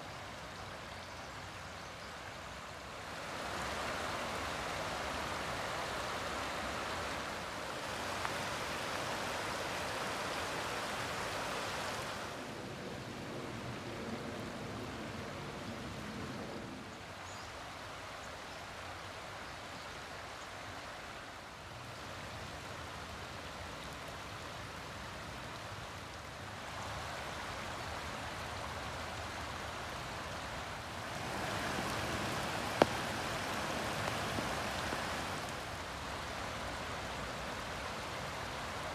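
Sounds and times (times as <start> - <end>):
creek rippling over stones: 0.0 - 13.2, 14.8 - 38.9.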